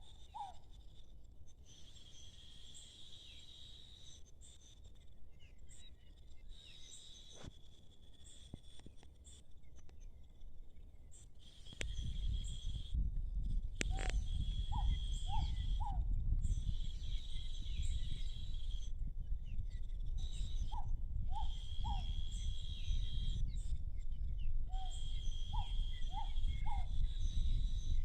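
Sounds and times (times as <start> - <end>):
high-pitched insect trill: 0.0 - 9.6, 11.2 - 28.0.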